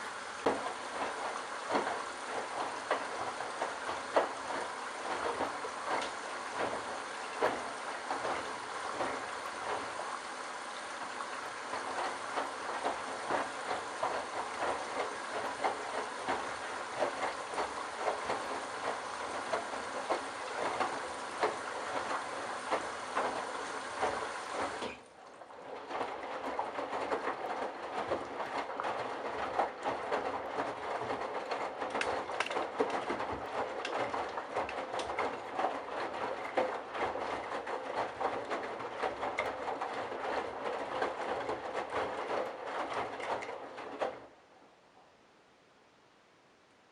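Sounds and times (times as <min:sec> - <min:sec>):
washing machine drum tumbling: 0:00.0 - 0:44.2
water sloshing and splashing: 0:00.0 - 0:44.5
small clicks patter: 0:00.2 - 0:44.2.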